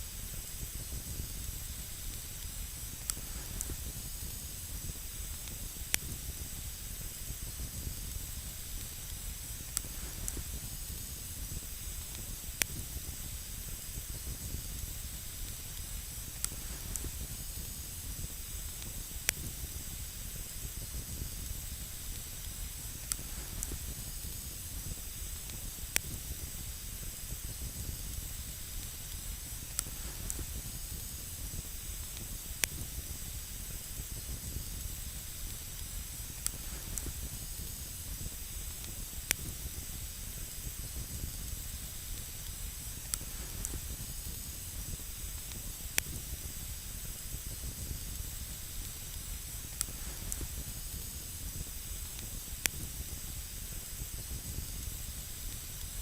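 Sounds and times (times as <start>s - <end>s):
campfire hissing and rumbling: 0.0s - 56.0s
campfire crackling and popping: 0.1s - 56.0s.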